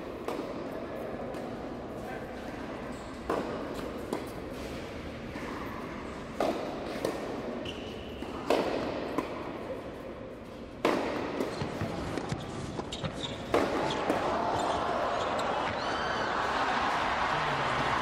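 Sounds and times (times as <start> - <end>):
rackets hitting tennis balls: 0.0 - 17.1.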